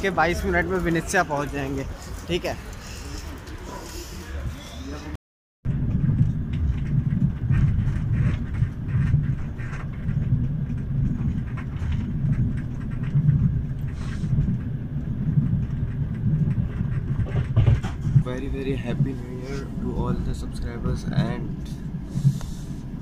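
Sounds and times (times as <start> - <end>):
train wheels rumbling: 0.0 - 5.1, 5.7 - 23.0.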